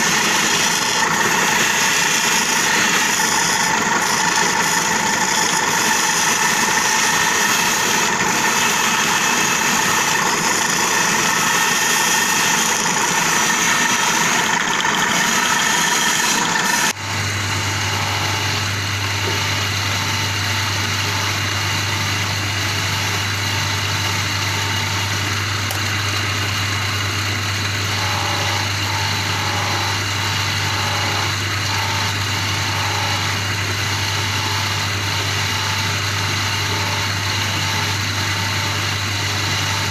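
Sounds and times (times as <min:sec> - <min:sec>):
polishing wheel running: 0:00.0 - 0:39.9.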